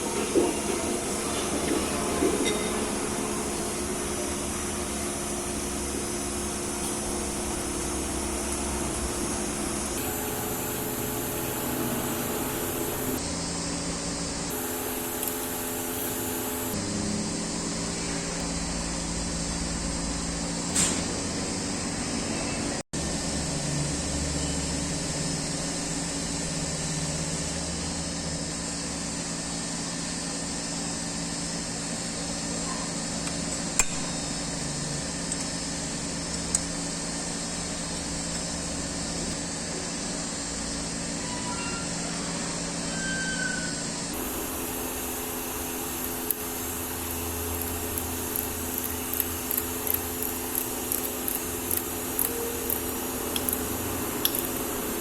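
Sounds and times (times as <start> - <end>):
machine hiss and hum: 0.0 - 55.0.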